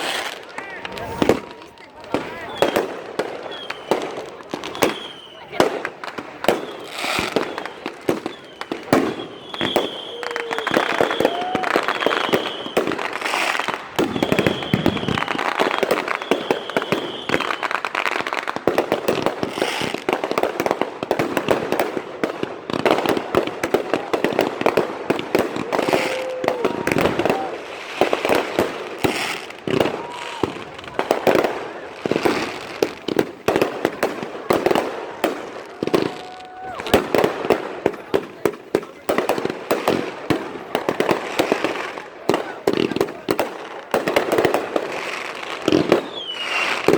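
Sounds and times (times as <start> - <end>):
firecrackers popping and crackling: 0.0 - 46.9
high whistling fireworks: 0.0 - 46.9.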